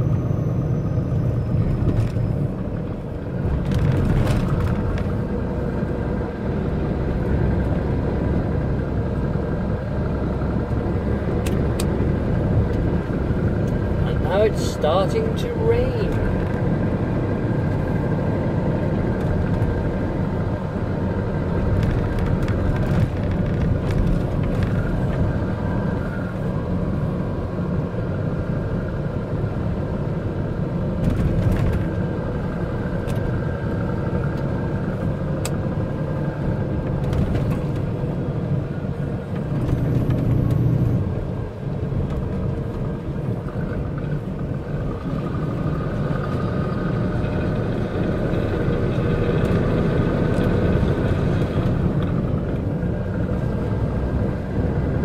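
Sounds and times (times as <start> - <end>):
diesel engine and road noise: 0.0 - 55.0.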